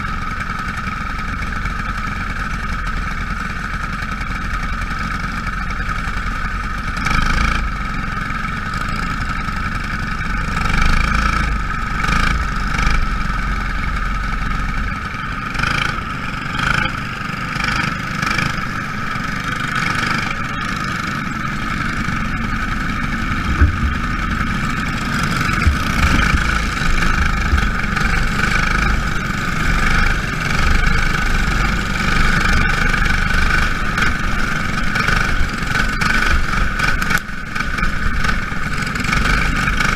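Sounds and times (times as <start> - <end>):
racing car engines droning: 0.0 - 39.9.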